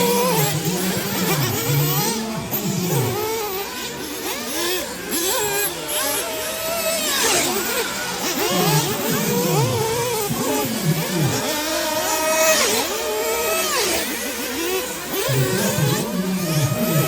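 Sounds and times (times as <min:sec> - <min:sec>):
small engines revving and whining: 0:00.0 - 0:17.0.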